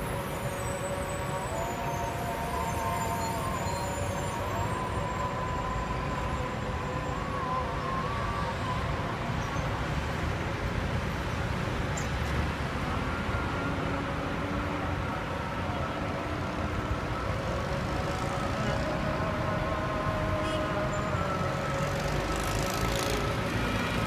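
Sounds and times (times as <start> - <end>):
city traffic noise: 0.0 - 24.0.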